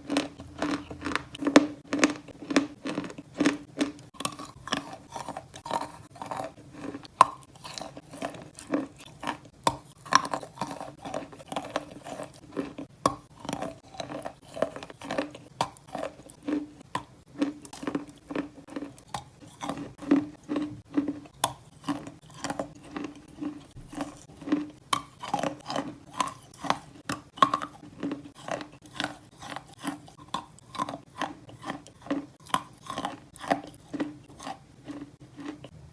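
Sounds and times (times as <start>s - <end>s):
crunchy chewing of chalk: 0.0s - 35.8s.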